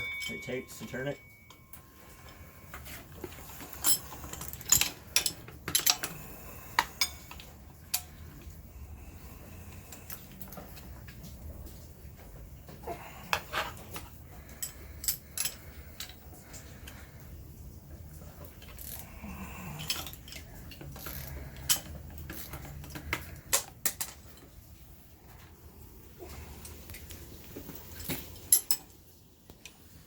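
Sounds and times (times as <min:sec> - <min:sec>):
metal tools and parts clanking: 0:00.0 - 0:08.6, 0:09.9 - 0:17.1, 0:17.9 - 0:25.4, 0:27.8 - 0:29.0.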